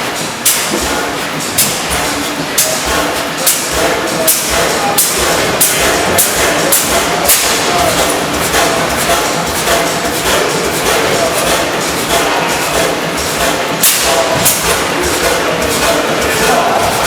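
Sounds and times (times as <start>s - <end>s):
stationary engine exhaust reports: 0.0s - 17.0s.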